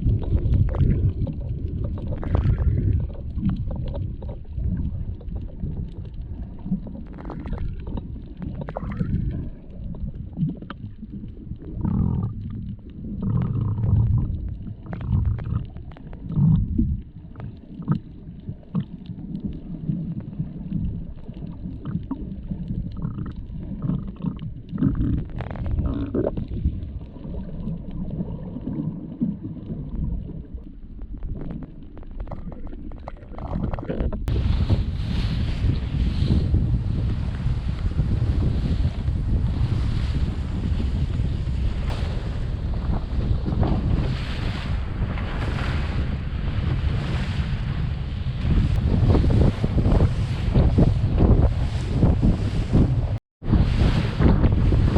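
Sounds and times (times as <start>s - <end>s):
bubbling: 0.0s - 54.9s
underwater rumble and sloshing: 0.0s - 54.9s.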